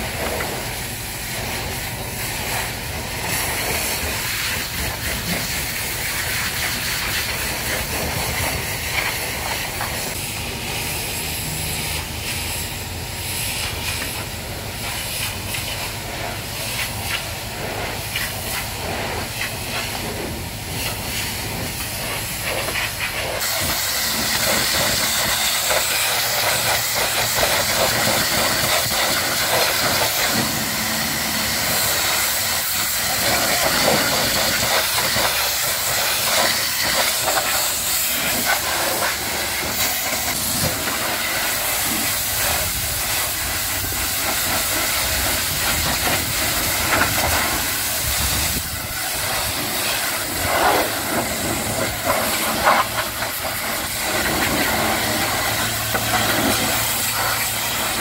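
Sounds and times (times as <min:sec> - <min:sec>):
pressure washer spraying water: 0:00.0 - 0:58.0.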